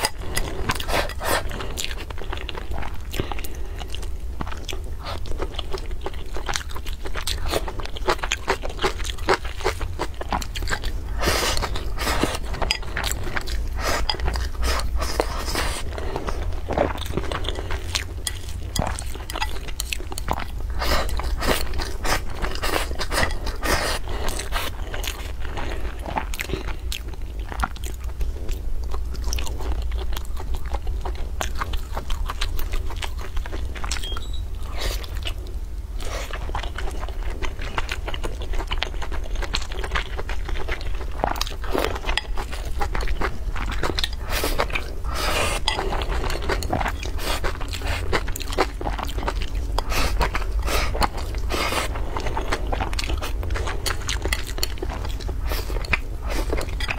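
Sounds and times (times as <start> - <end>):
chewing and crunching: 0.0 - 56.9.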